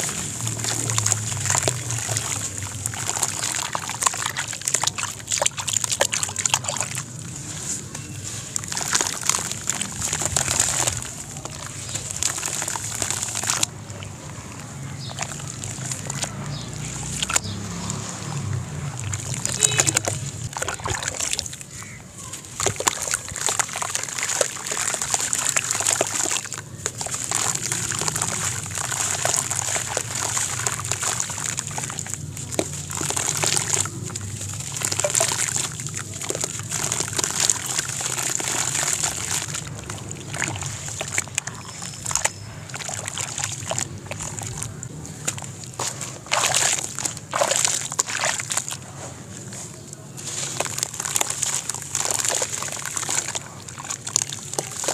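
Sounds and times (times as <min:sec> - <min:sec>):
hands sloshing in water: 0:00.0 - 0:54.9
wet sand crumbling and splashing: 0:00.0 - 0:54.9.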